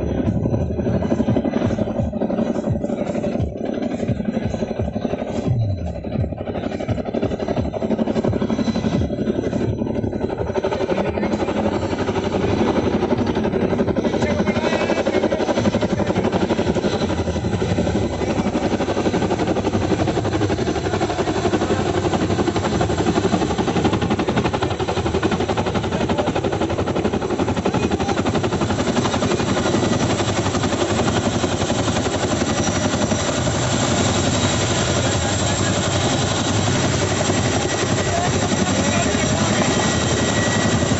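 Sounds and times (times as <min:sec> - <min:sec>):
helicopter rotor beat and engine: 0:00.0 - 0:40.9.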